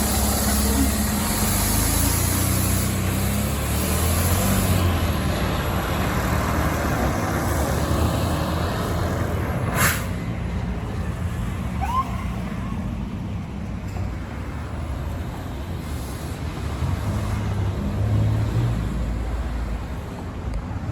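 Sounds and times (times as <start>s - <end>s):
diesel engine rumbling: 0.0s - 20.9s.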